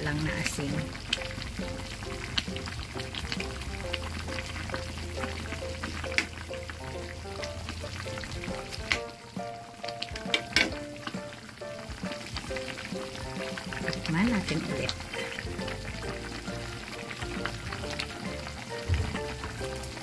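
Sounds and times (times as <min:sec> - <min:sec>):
background music: 0:00.0 - 0:20.0
soup bubbling in a pot: 0:00.0 - 0:20.0.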